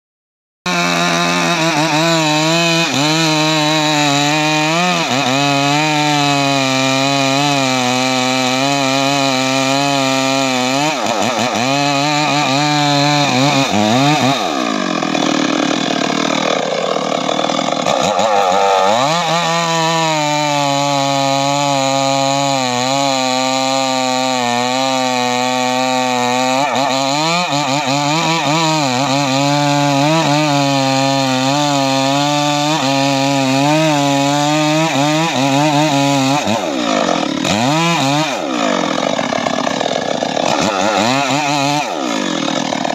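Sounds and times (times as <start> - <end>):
chainsaw cutting wood: 0.7 - 42.9.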